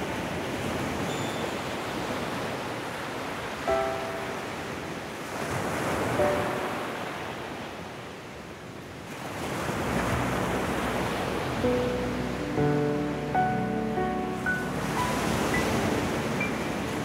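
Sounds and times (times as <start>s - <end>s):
small waves on sandy beach: 0.0s - 17.0s.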